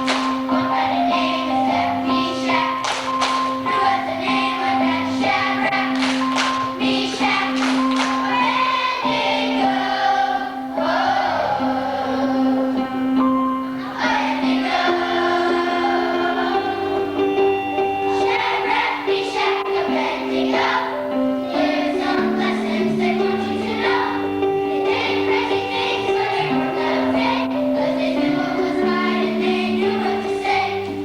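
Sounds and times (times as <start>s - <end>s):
choir singing: 0.0s - 31.0s
instrumental backing chords: 0.0s - 31.0s.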